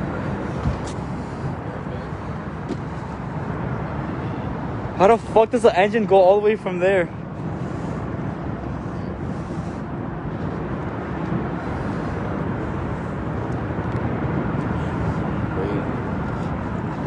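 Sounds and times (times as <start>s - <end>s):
outdoor rumble: 0.0s - 17.0s.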